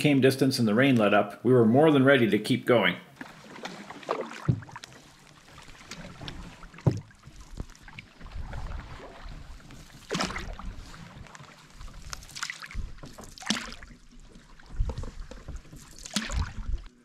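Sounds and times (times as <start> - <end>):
paddles splashing in water: 3.1 - 17.0.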